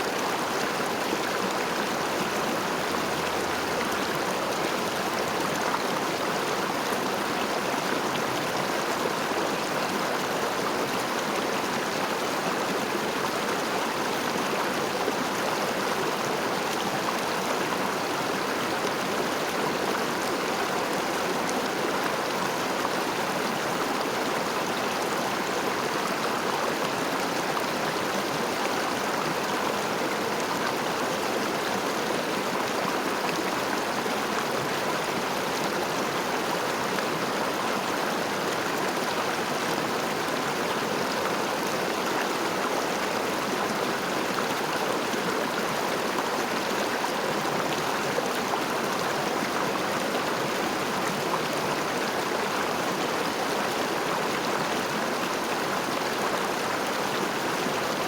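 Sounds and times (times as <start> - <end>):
river water running over stones: 0.0 - 58.0.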